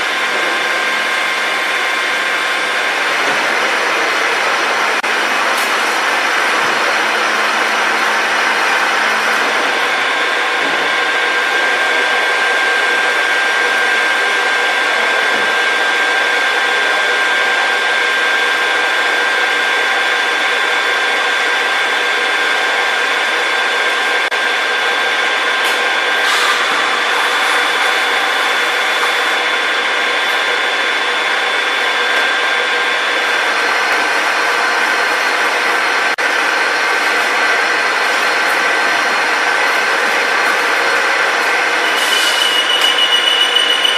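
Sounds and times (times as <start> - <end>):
drilling machine motor whine: 0.0 - 43.9.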